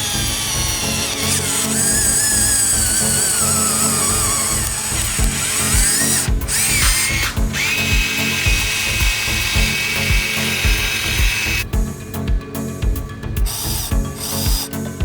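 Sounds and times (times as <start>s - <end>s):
small electric motor whine: 0.0s - 12.1s, 13.4s - 14.8s
background music with beat: 0.0s - 15.0s.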